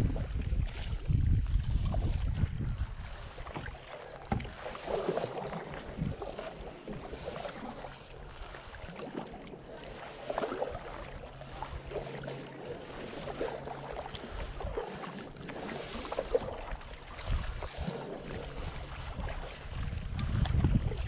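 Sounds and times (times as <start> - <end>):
paddle splashing in water: 0.0 - 21.0
water dripping and sloshing: 0.0 - 21.0
wind buffeting microphone: 0.0 - 21.0.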